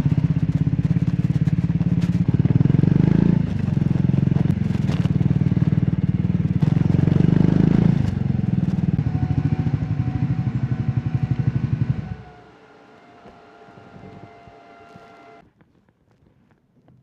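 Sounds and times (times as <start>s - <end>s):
motorcycle engine running at low revs: 0.0s - 15.4s.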